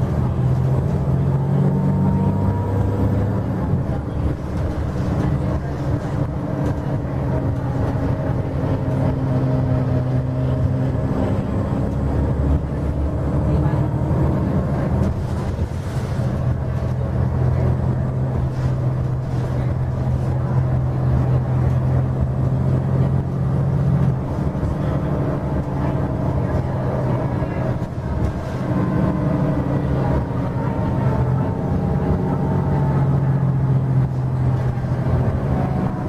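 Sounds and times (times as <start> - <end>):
bus diesel engine humming: 0.0 - 36.0
road rumble: 0.0 - 36.0.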